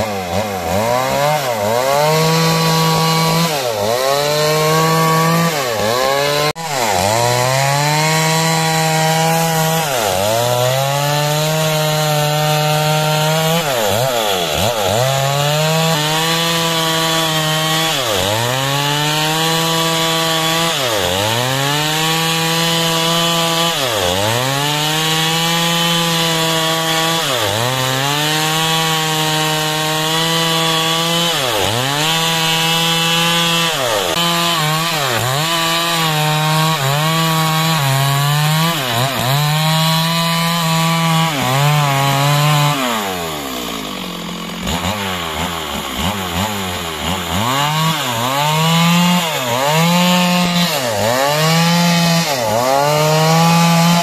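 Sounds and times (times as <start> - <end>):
chainsaw cutting timber: 0.0 - 54.0.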